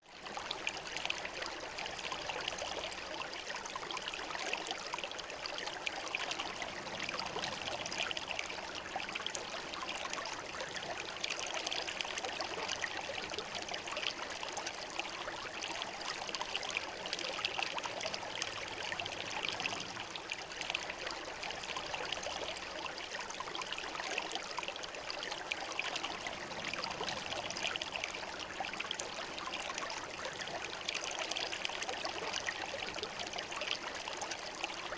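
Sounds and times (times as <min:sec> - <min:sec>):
river babbling over stones: 0:00.5 - 0:34.9.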